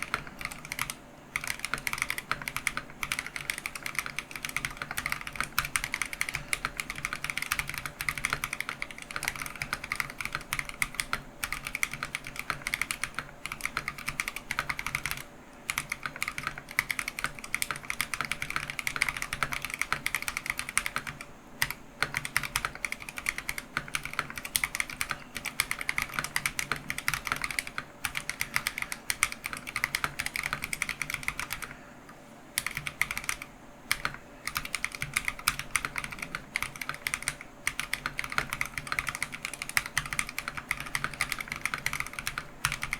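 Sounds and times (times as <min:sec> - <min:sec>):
mechanical keyboard typing: 0:00.0 - 0:31.8, 0:32.6 - 0:42.9.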